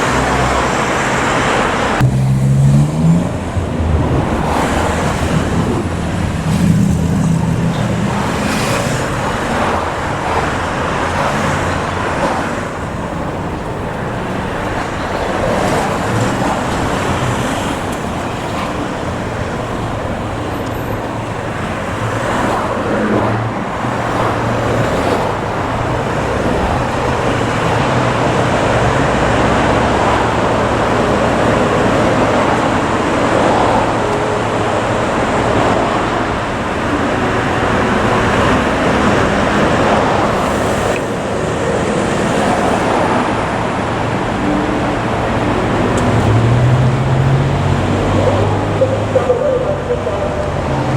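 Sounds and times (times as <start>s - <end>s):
road traffic: 0.0s - 50.9s.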